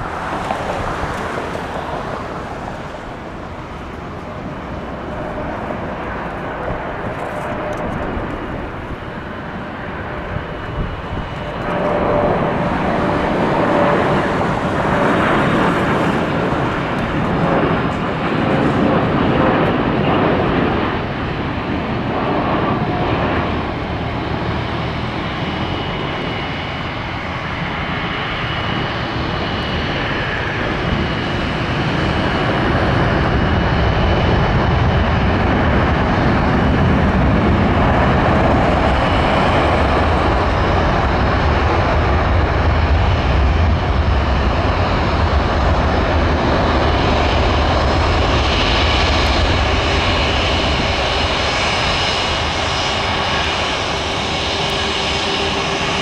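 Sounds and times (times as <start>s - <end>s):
high jet whine: 0.0s - 56.0s
jet engines roaring: 0.0s - 56.0s.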